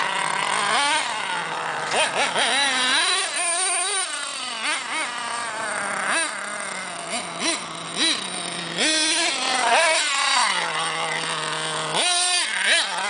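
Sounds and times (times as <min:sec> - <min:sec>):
small nitro engine revving: 0:00.0 - 0:13.0.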